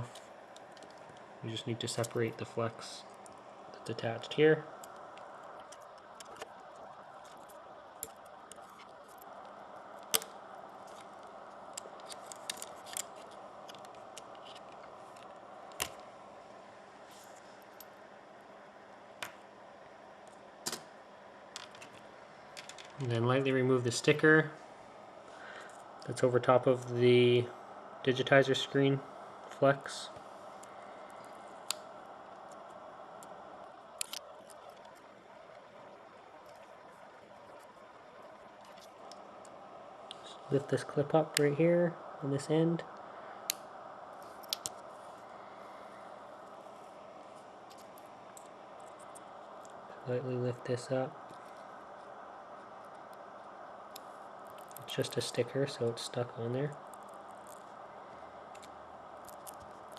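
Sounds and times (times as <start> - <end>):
faint steady hiss: 0.0 - 59.9.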